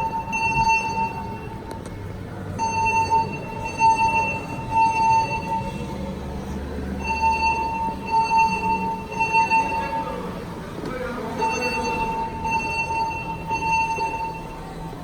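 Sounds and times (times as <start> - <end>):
fire alarm horns buzzing: 0.0 - 1.7, 2.5 - 15.0.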